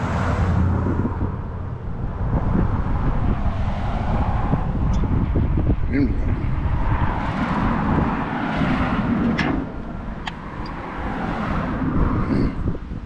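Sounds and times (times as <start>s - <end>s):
road noise: 0.0s - 13.0s
wind on microphone: 0.0s - 13.0s.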